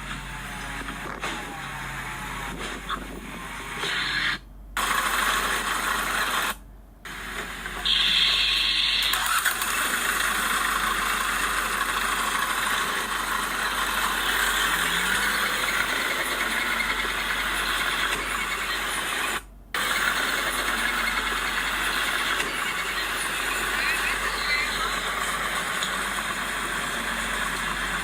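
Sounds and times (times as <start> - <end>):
bulldozer engine: 0.0 - 6.6, 7.7 - 28.0
steel tracks running: 0.0 - 28.0.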